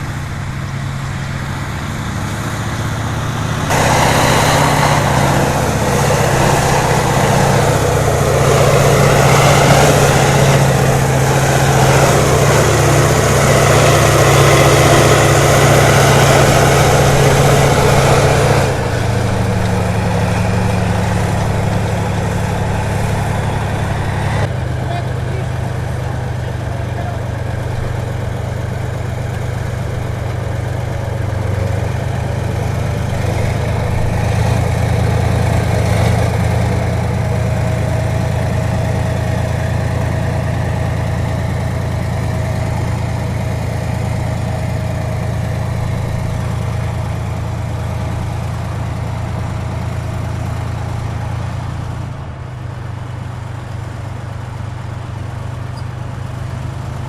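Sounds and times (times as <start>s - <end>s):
tank diesel engine droning: 0.0s - 57.0s.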